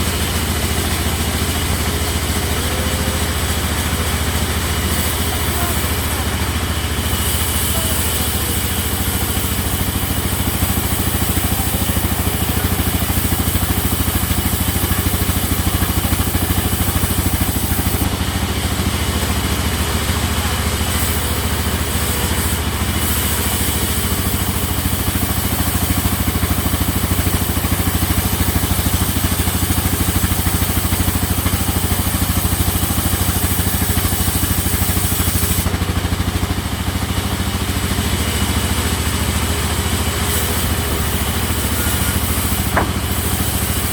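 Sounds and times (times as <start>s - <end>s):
sawmill machinery drone: 0.0s - 43.9s.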